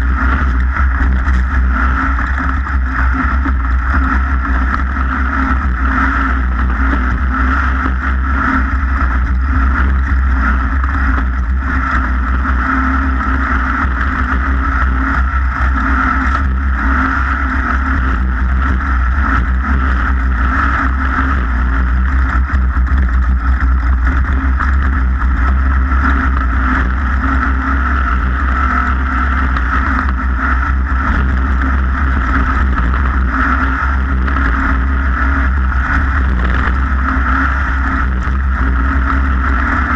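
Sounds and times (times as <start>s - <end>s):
race vehicle engine running: 0.0s - 39.9s
rushing noise: 0.0s - 39.9s.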